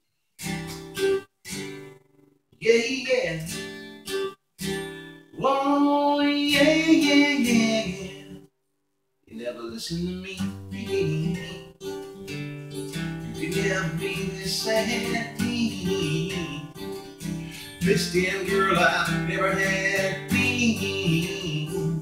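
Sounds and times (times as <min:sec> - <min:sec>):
acoustic guitar strumming: 0:00.4 - 0:08.5, 0:10.0 - 0:22.0.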